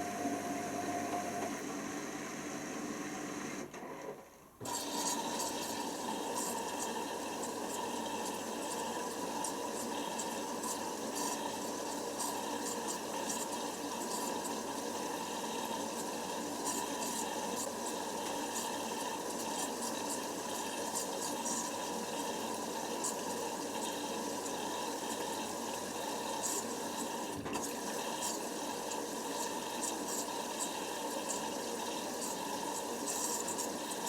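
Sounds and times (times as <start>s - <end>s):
water rushing through washing machine: 0.0s - 34.0s.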